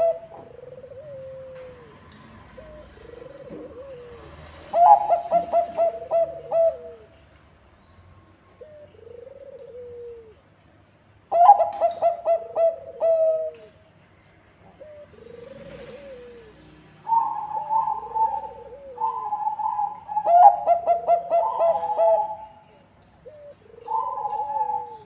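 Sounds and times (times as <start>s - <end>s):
dove cooing: 0.0s - 7.2s, 8.6s - 10.5s, 11.3s - 13.8s, 14.6s - 25.0s.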